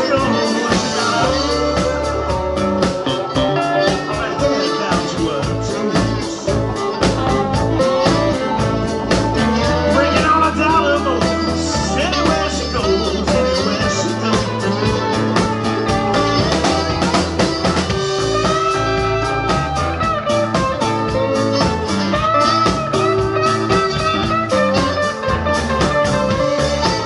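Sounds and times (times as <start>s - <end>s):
blues-rock band playing: 0.0s - 27.0s
saxophone playing: 0.0s - 27.0s.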